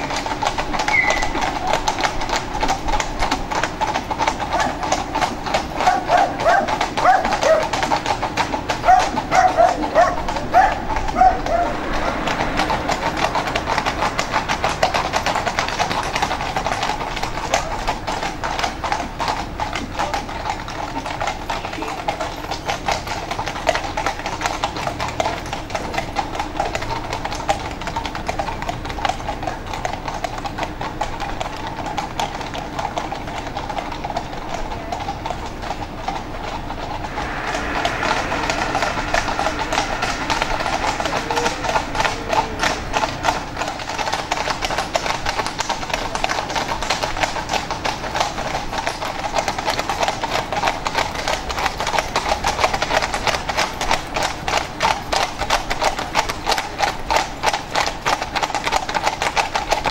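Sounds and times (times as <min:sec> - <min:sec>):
horse hooves clip-clopping: 0:00.0 - 0:59.9.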